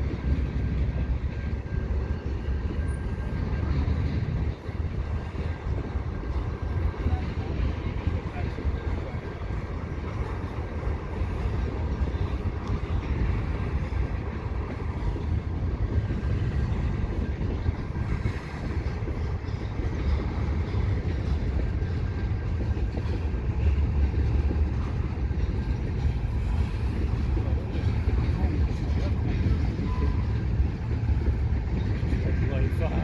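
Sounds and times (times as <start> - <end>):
freight train rumbling over bridge: 0.0 - 33.0.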